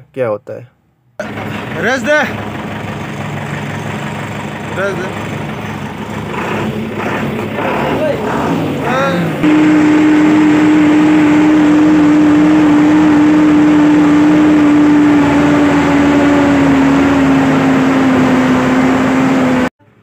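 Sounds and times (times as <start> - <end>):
diesel engine at full throttle: 1.2 - 20.0.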